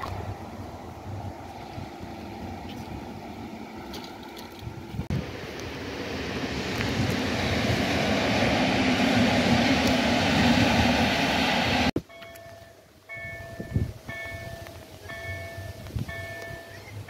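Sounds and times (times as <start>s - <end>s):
train rumbling over bridge: 0.0s - 17.0s.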